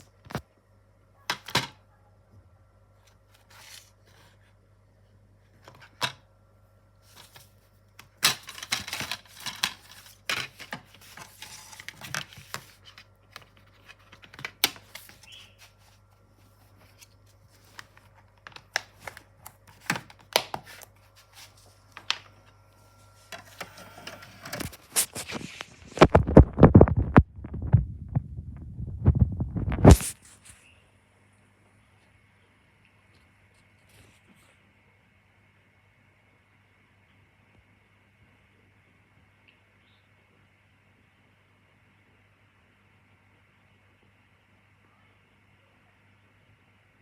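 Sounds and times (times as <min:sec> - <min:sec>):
faint electrical hum: 0:00.0 - 0:47.0.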